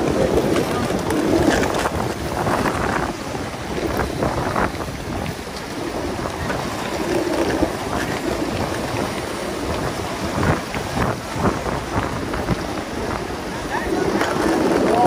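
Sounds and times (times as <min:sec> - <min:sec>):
skateboard wheels rolling on pavement: 0:00.0 - 0:15.0
wind buffeting microphone: 0:00.0 - 0:15.0.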